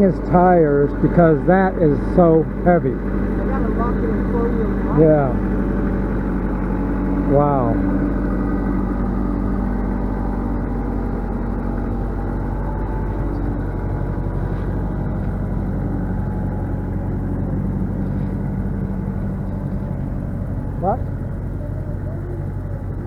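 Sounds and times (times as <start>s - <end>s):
engine running under heavy load: 0.0s - 23.0s.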